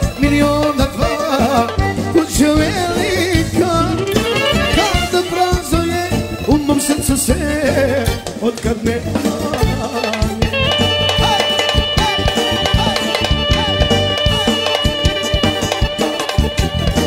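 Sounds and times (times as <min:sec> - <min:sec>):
clarinet melody: 0:00.0 - 0:07.4, 0:09.6 - 0:17.0
accordion: 0:00.0 - 0:17.0
steady drum beat: 0:00.0 - 0:17.0.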